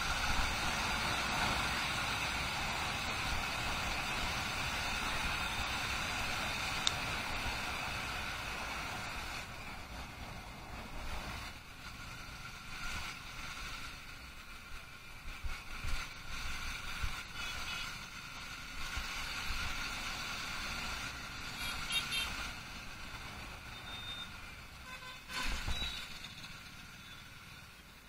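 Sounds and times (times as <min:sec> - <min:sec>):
motorcycle engine: 0:00.0 - 0:27.9.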